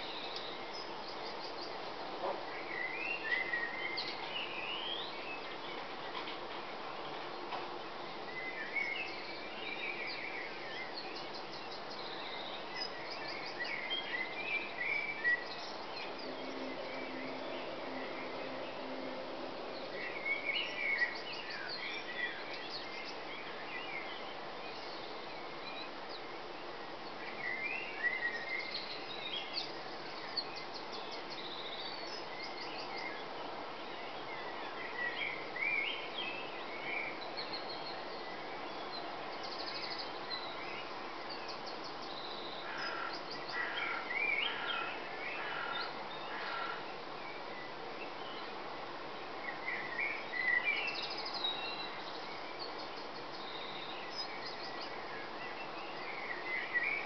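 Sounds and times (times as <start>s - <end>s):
songbirds singing: 0.0s - 57.0s
steady background noise: 0.0s - 57.0s.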